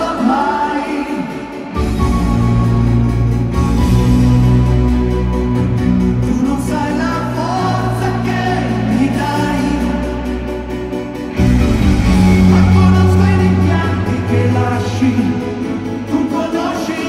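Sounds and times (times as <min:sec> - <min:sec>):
lead vocal singing: 0:00.0 - 0:17.0
live pop band playing: 0:00.0 - 0:17.0.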